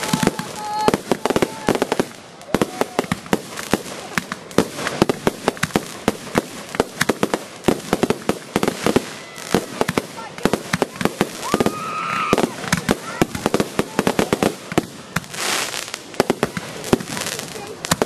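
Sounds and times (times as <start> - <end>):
fireworks popping and crackling: 0.0 - 18.0.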